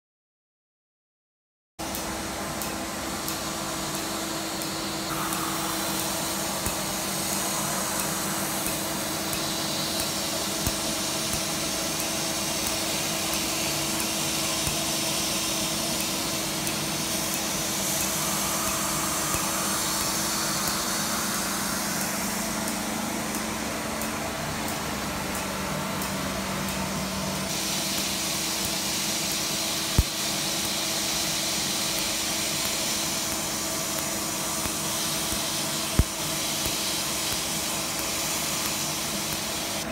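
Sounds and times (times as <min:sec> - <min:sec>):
machine hum: 0:01.8 - 0:39.9
rush of air from hose nozzle: 0:03.0 - 0:23.8, 0:27.5 - 0:39.8.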